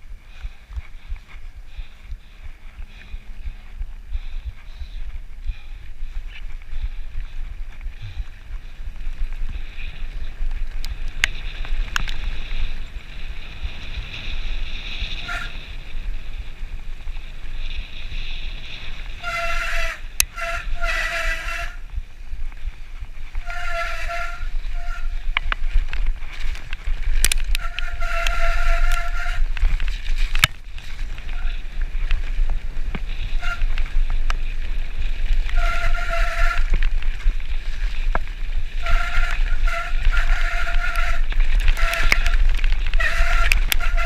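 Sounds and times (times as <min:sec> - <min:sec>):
bike tyres rumbling on dirt: 0:00.0 - 0:44.0
bike rattling clicks: 0:00.2 - 0:21.4, 0:22.2 - 0:44.0.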